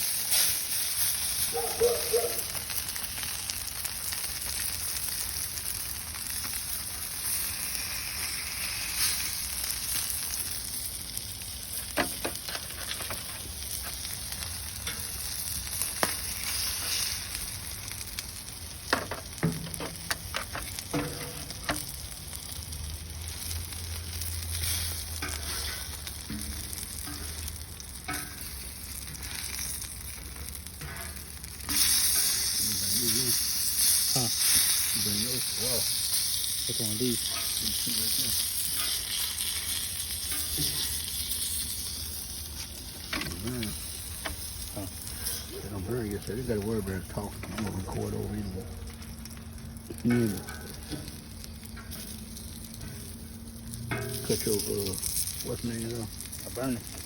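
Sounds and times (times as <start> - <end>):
food sizzling on a grill: 0.0 - 57.0.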